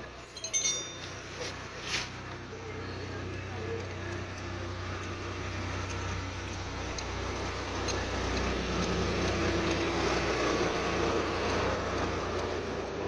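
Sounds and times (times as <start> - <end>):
vehicle noise with low hum: 0.0 - 13.0.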